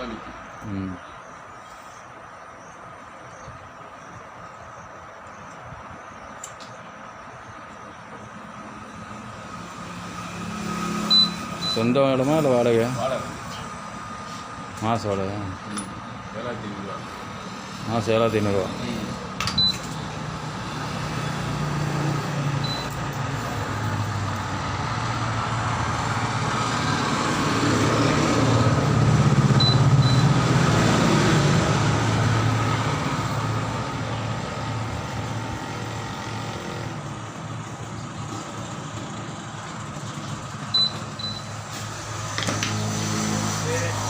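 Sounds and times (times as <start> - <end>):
vehicle engine passing: 8.4 - 44.0.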